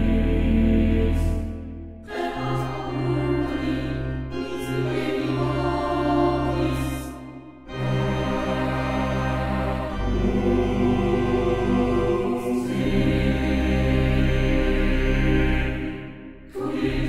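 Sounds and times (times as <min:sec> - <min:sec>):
choir singing sustained notes: 0:00.0 - 0:17.0
low drone: 0:00.0 - 0:17.0.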